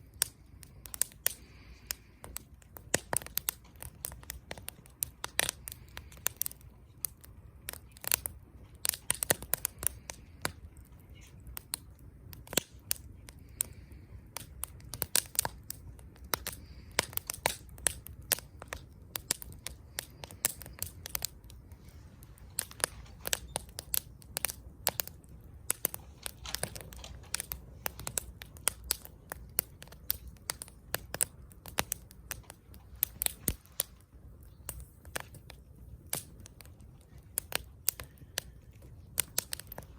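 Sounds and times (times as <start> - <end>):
faint low rumble: 0.0 - 39.9
wood fire crackling: 0.0 - 39.9.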